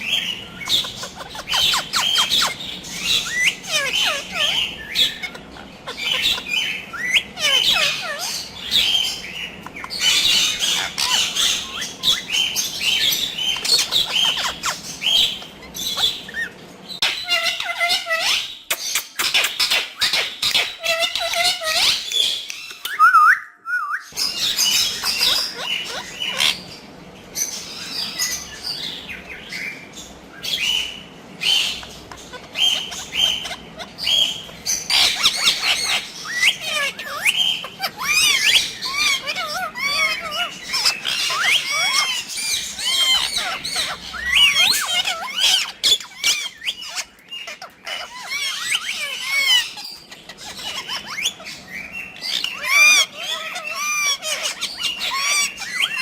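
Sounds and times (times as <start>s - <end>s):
parakeets chirping and squawking: 0.0s - 23.4s, 24.0s - 56.0s.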